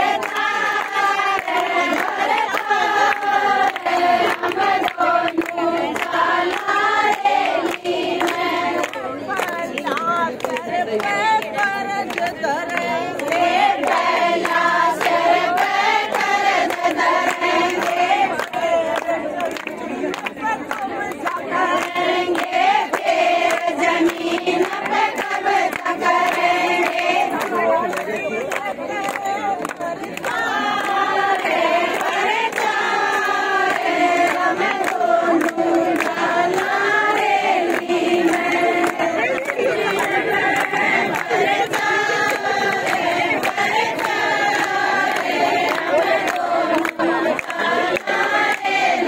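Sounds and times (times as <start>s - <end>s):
hand clapping: 0.0s - 49.0s
women singing folk song: 0.0s - 49.0s.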